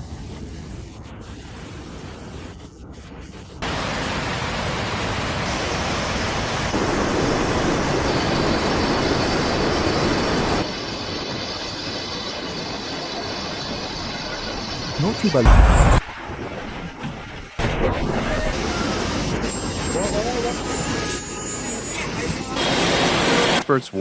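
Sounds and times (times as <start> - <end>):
steady rushing noise: 0.0 - 20.8.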